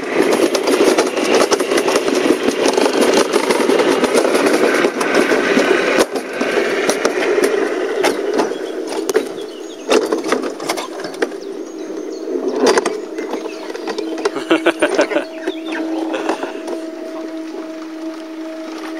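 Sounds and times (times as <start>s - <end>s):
bobsled rolling rumble: 0.0s - 18.9s.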